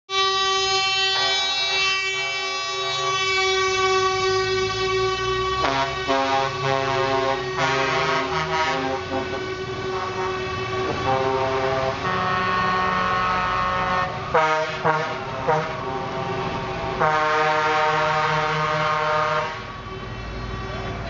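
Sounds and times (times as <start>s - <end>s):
truck air horns blasting: 0.1s - 21.0s
diesel engines running: 0.3s - 21.0s.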